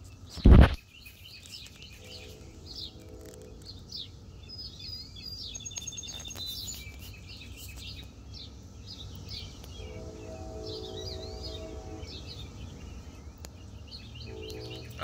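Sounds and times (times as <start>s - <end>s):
songbirds chirping: 0.0s - 15.0s
bird trill: 0.8s - 15.0s.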